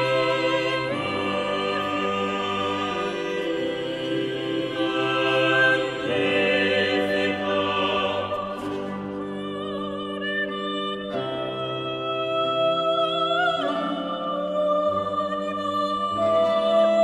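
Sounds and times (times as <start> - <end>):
slow classical music: 0.0 - 17.0.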